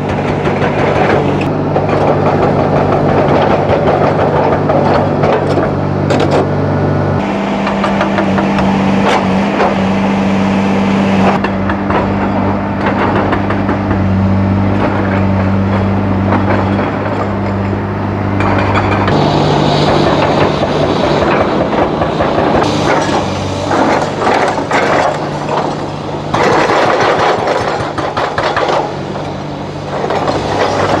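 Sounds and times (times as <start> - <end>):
excavator diesel engine running: 0.0 - 31.0
metal clanking and scraping rock: 0.1 - 6.6, 7.2 - 31.0.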